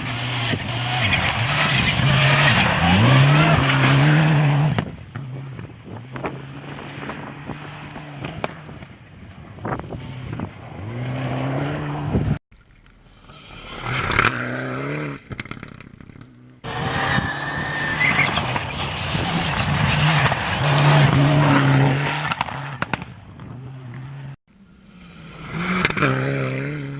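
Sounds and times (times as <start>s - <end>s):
rally car engines revving: 0.0s - 12.4s, 13.3s - 26.9s.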